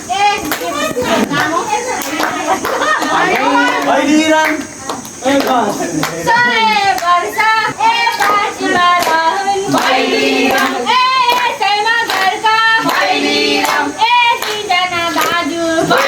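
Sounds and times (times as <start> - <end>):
voices singing together: 0.0 - 16.0
hand claps: 0.4 - 16.0.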